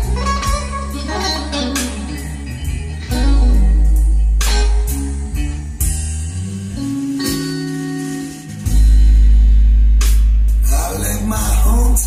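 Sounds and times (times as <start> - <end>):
deep bass note: 0.0 - 12.0
guitar music over loudspeakers: 0.0 - 12.0.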